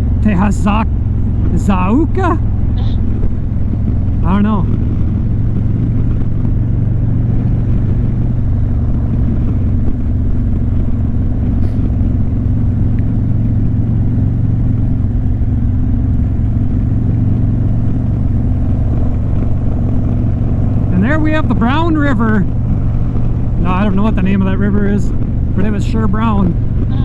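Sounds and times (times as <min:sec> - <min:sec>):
motorcycle engine hum: 0:00.0 - 0:27.0
wind and road noise: 0:00.0 - 0:27.0.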